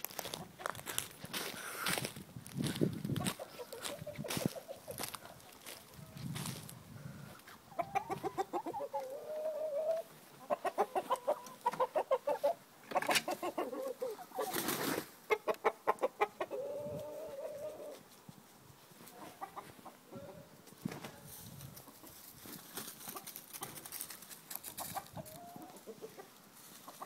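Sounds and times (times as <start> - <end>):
chickens clucking: 0.2 - 2.1, 2.8 - 27.0.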